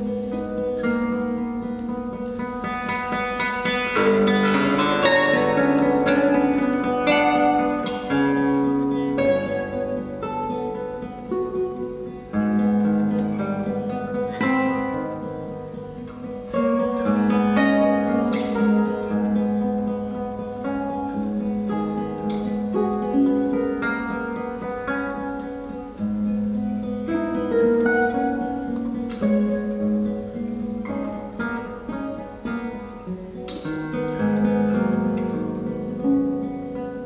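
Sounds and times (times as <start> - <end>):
classical guitars playing: 0.0 - 37.0.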